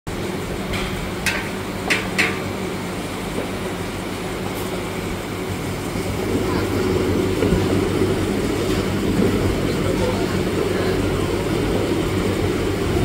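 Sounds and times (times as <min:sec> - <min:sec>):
gas burner rumbling: 0:00.1 - 0:13.0.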